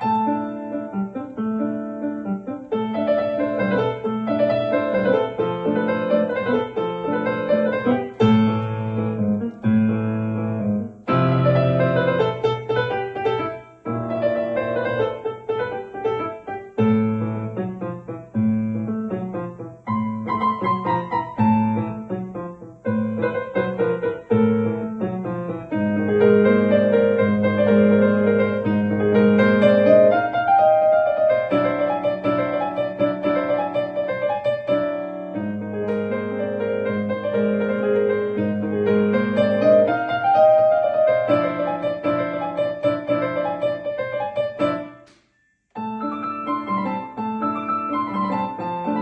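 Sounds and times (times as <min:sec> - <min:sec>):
solo piano piece: 0:00.0 - 0:49.0.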